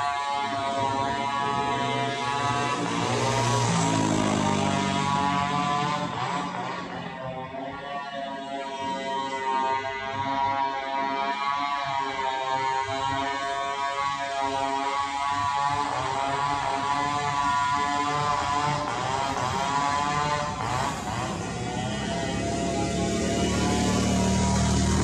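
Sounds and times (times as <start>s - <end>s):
vehicle engine drone: 0.0s - 25.0s.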